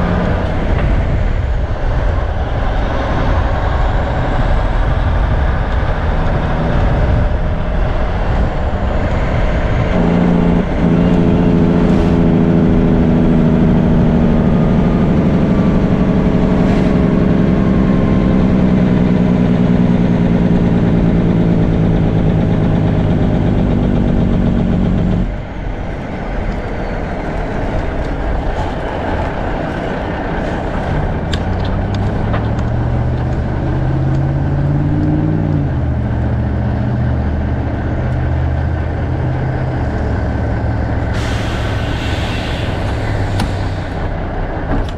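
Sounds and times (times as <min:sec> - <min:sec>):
truck diesel engine: 0:00.0 - 0:44.9.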